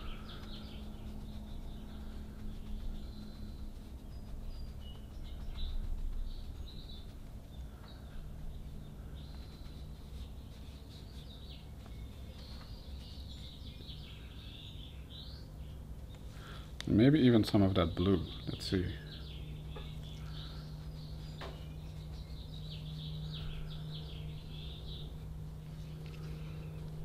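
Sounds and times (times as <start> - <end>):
faint bird chirps: 0.0 - 26.9
steady low hum: 0.0 - 27.0.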